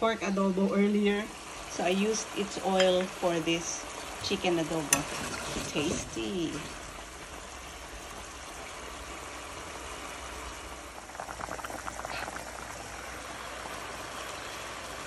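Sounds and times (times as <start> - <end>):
food simmering in a pan: 0.0 - 15.0
soup boiling rapidly: 1.4 - 15.0.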